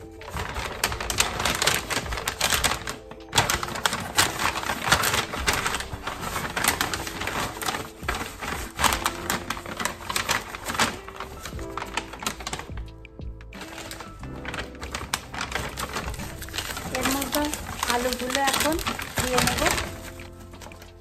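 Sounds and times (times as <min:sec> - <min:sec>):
paper bag crinkling: 0:00.0 - 0:21.0.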